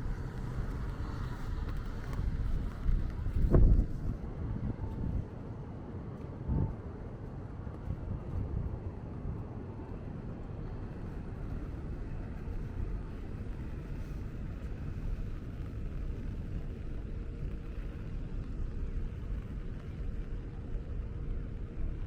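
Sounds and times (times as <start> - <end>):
faint steady hum: 0.0 - 22.0
low traffic rumble: 0.0 - 22.0.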